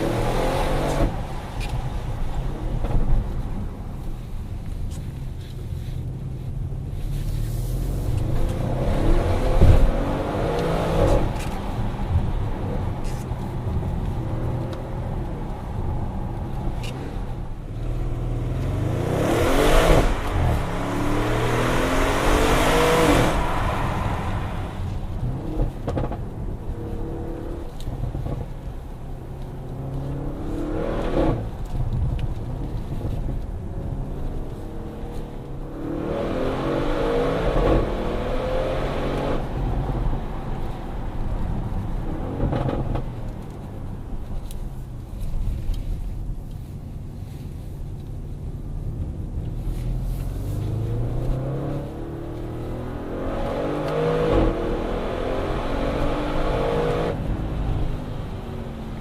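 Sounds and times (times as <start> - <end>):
car engine accelerating: 0.0 - 5.1, 5.7 - 59.0.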